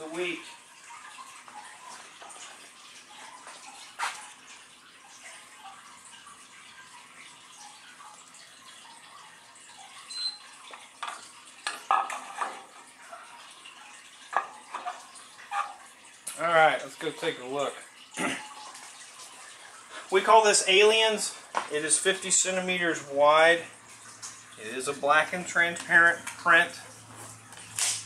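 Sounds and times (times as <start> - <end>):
water lapping in a tank: 0.0 - 28.0.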